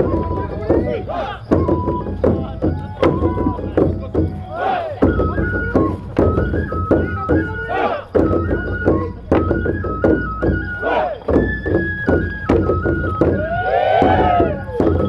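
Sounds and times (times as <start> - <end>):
bamboo flute melody: 0.0 - 15.0
drum strikes: 0.0 - 15.0
voices calling: 0.0 - 15.0.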